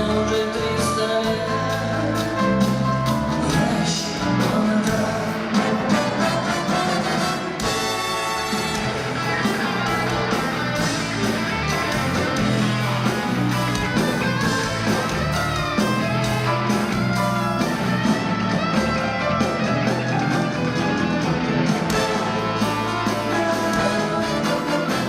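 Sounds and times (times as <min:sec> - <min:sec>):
electric guitar: 0:00.0 - 0:25.0
live band playing instrumental: 0:00.0 - 0:25.0.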